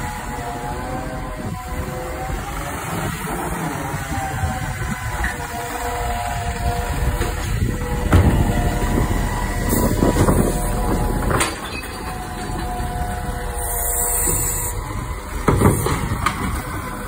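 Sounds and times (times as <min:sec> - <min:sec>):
diesel engine and hydraulics: 0:00.0 - 0:17.0.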